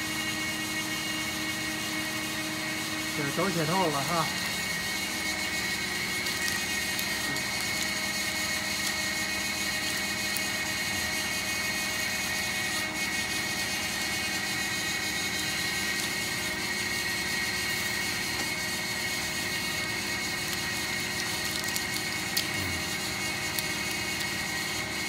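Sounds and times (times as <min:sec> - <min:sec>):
constant high whine: 0:00.0 - 0:25.0
factory machinery humming: 0:00.0 - 0:25.0.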